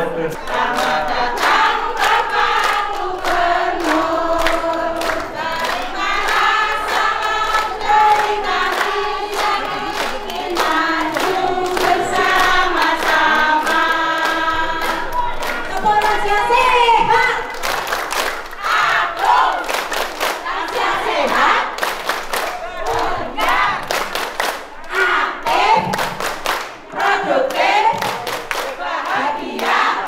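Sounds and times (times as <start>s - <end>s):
women singing together: 0.0s - 30.0s
hands clapping a steady beat: 0.3s - 16.7s, 17.4s - 30.0s.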